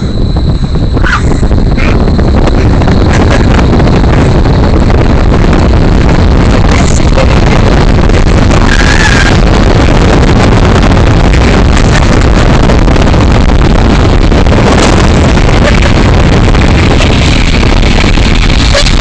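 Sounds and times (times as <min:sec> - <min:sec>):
fan wind buffeting microphone: 0:00.0 - 0:19.0.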